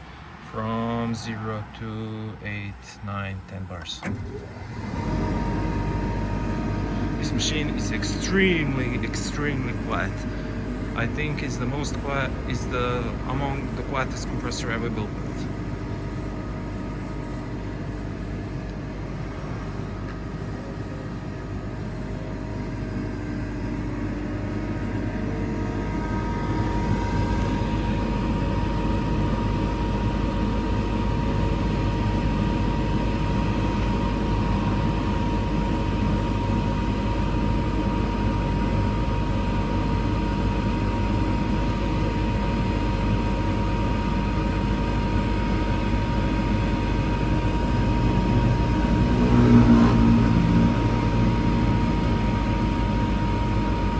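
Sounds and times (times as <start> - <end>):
steady whine: 0.0 - 53.9
air compressor running: 4.0 - 53.9.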